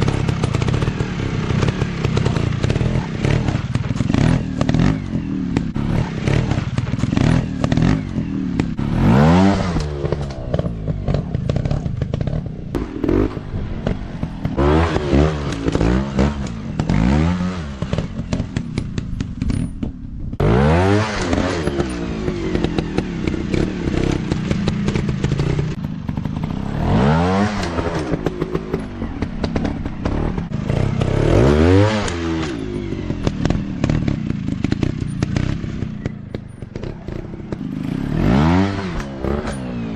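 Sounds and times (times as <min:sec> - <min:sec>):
bike clattering over rough ground: 0:00.0 - 0:20.4, 0:21.2 - 0:39.9
dirt bike engine revving: 0:00.0 - 0:39.9.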